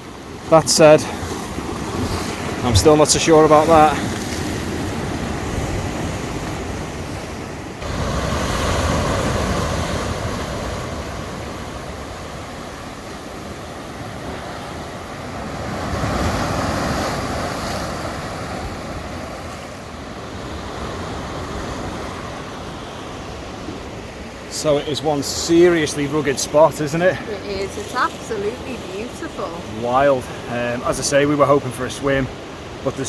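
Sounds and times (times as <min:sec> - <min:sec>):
waves breaking against rocks: 0:00.0 - 0:33.0.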